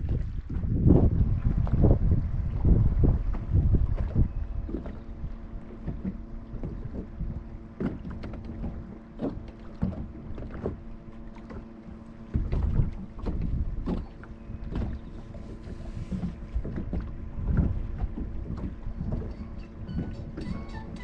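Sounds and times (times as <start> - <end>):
rush of wind and water: 0.0 - 21.0
steady low hum: 0.0 - 21.0
water slapping boat hull: 0.0 - 21.0.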